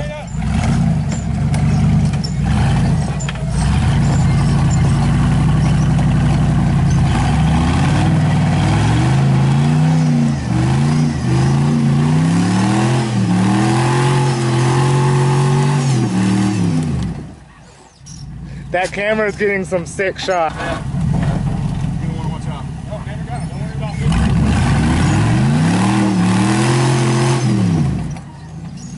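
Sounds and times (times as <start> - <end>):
truck engine revving: 0.0 - 17.4, 19.4 - 28.9.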